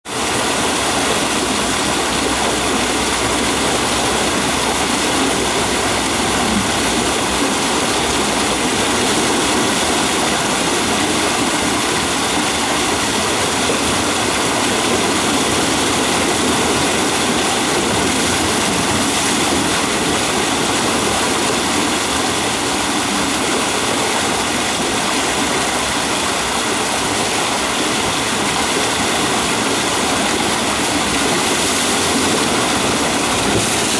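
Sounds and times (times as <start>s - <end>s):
water rushing over weir: 0.0s - 33.9s.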